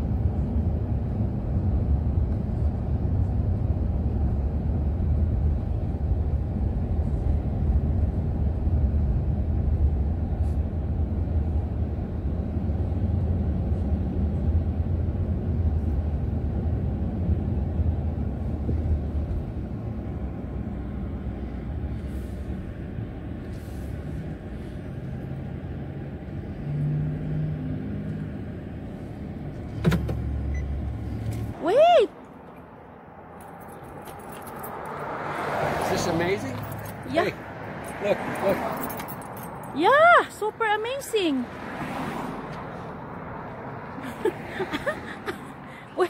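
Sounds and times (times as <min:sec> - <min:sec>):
car road and engine rumble: 0:00.0 - 0:46.0.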